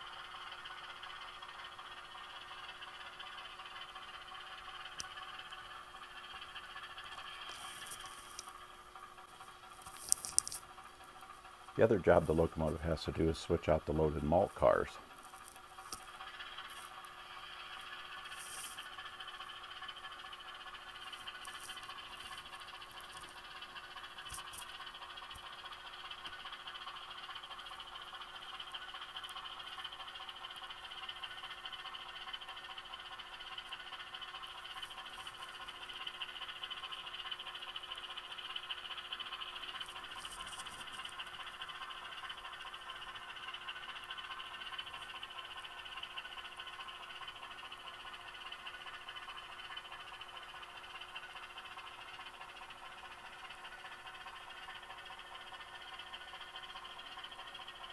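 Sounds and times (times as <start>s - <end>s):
model train diesel engine sound: 0.0s - 57.9s.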